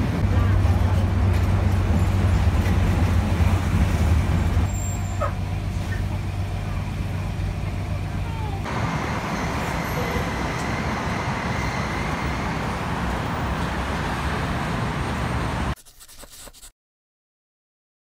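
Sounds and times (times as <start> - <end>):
heavy road traffic: 0.0 - 15.8.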